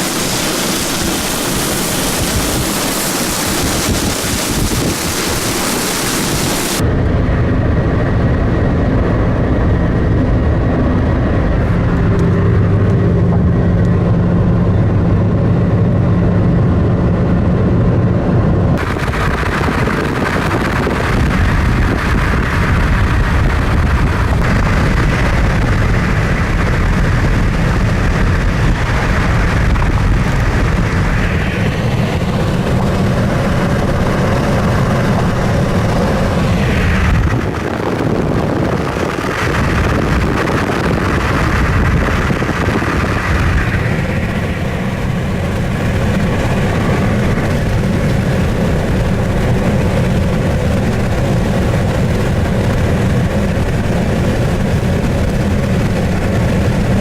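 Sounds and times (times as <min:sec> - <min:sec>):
car engine hum: 0:00.0 - 0:57.0
gusty storm wind: 0:00.0 - 0:57.0
road noise: 0:00.0 - 0:57.0.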